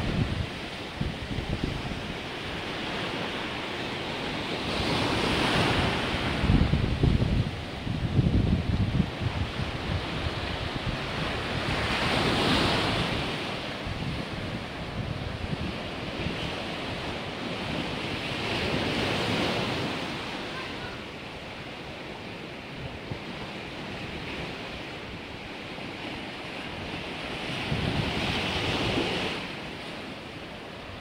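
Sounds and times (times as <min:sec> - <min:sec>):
sea waves washing onto shore: 0:00.0 - 0:31.0
wind buffeting microphone: 0:00.0 - 0:31.0.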